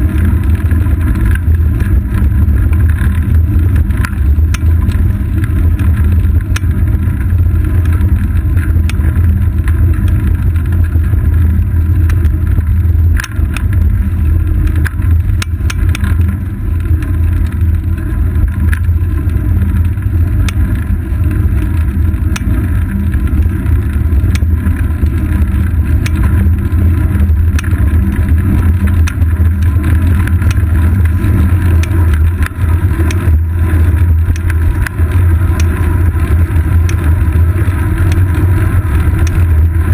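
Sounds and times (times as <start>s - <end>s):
wind and tyre rumble: 0.0s - 39.9s.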